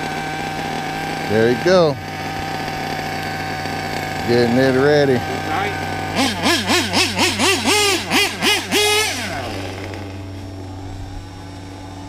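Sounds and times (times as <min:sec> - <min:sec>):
model engine revving and idling: 0:00.0 - 0:12.0.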